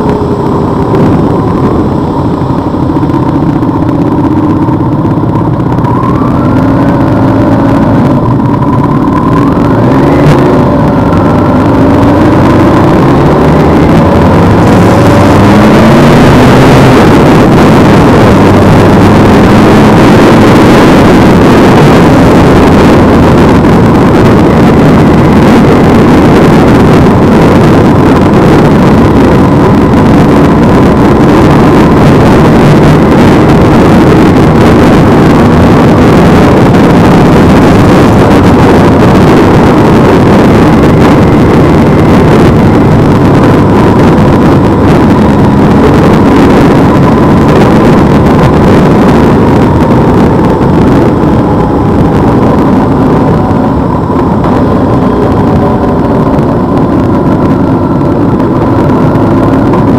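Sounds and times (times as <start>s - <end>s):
motorcycle engine accelerating: 0.0s - 59.9s
wind rush on microphone: 0.0s - 59.9s.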